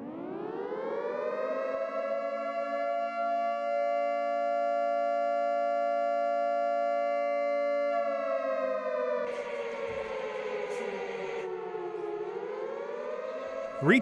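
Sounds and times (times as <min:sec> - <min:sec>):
tornado warning siren: 0:00.0 - 0:14.0.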